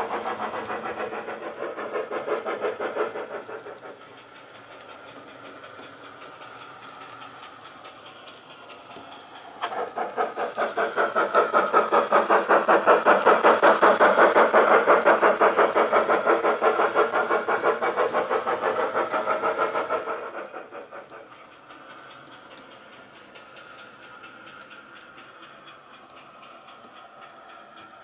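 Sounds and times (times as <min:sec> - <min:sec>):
model locomotive exhaust chuffs: 0:00.0 - 0:28.0.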